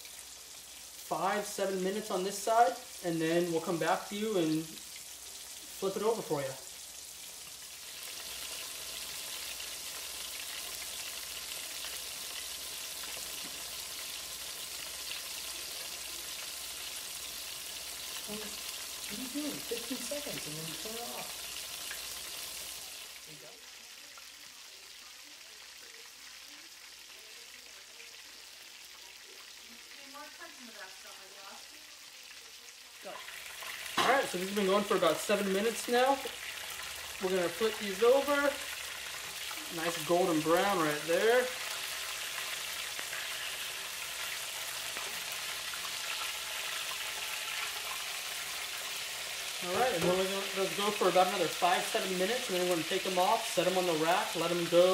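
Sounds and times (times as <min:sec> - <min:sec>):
chicken sizzling in oil: 0:00.0 - 0:54.9.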